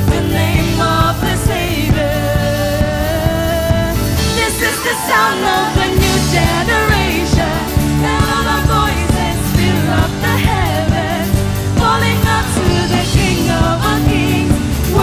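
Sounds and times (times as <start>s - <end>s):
bass: 0.0s - 15.0s
singers singing worship song: 0.0s - 15.0s
steady drum beat: 0.0s - 15.0s.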